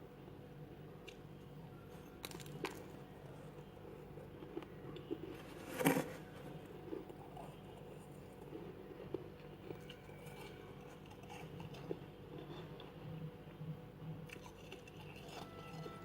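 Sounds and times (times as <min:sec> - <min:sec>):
frost crunch chewing: 0:01.9 - 0:16.0
chewing crunches and clicks: 0:02.0 - 0:16.0.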